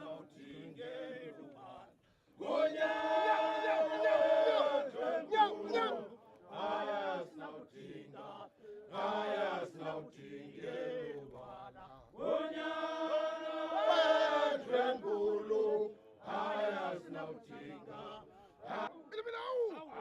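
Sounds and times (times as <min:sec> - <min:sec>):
men chanting: 0:00.0 - 0:20.0
voices holding a long note: 0:00.0 - 0:20.0.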